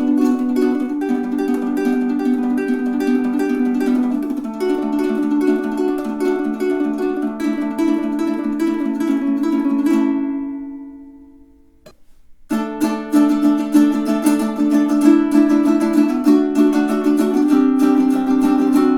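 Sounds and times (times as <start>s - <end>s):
ukulele strummed chords: 0.0s - 18.9s.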